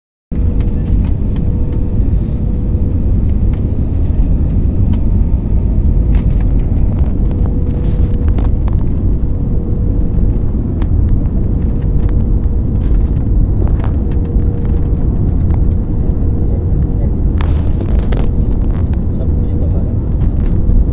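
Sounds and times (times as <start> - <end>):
aeroplane landing rumble: 0.3 - 20.9
constant hum: 0.3 - 20.9.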